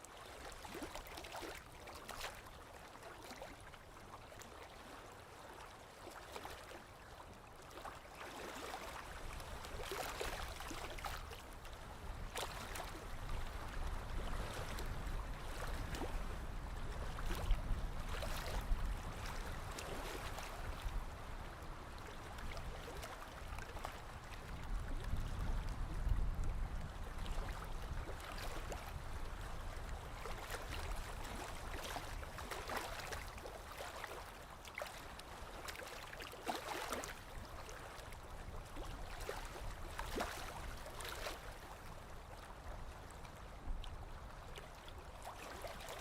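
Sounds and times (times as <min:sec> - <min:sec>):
waves lapping against shore: 0:00.0 - 0:46.0.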